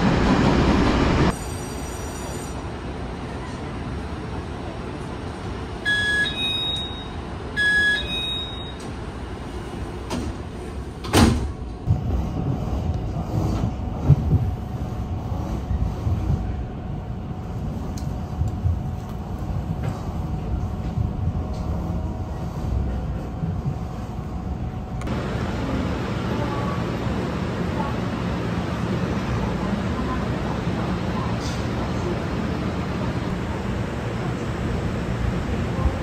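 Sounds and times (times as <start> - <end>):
train rumbling and clattering: 0.0 - 7.5, 8.7 - 36.0.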